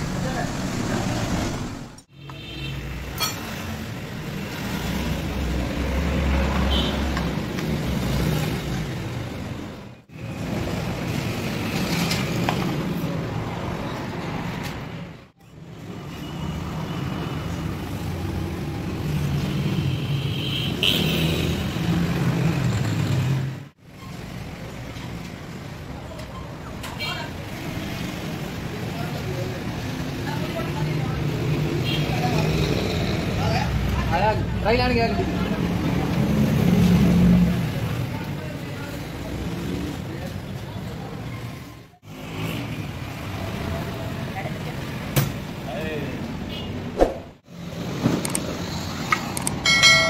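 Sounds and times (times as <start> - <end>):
motor traffic: 0.0 - 50.0.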